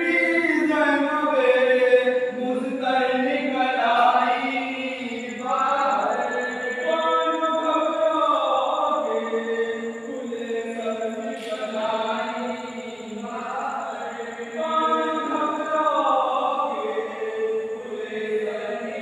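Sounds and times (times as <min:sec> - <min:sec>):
voices chanting a mourning lament: 0:00.0 - 0:19.0.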